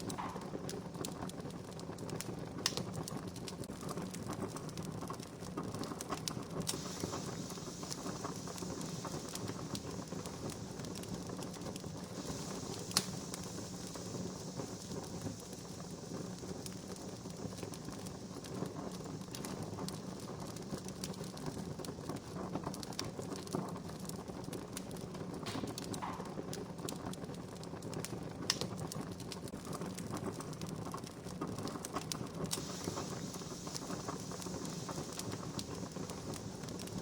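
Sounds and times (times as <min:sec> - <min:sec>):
campfire crackling and popping: 0:00.0 - 0:37.0
soft hiss of fire: 0:00.0 - 0:37.0.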